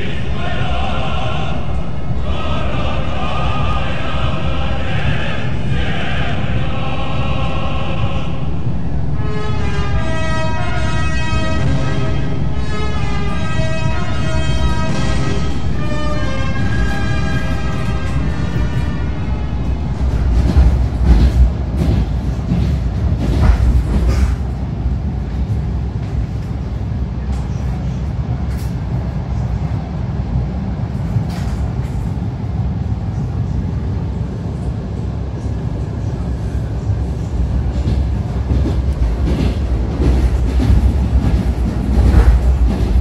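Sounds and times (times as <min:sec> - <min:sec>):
train running gear rumble: 0:00.0 - 0:43.0.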